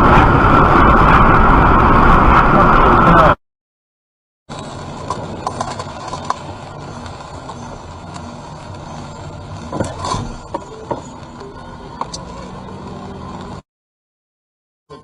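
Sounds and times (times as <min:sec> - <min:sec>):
road and engine rumble: 0:00.0 - 0:03.4, 0:04.5 - 0:13.6.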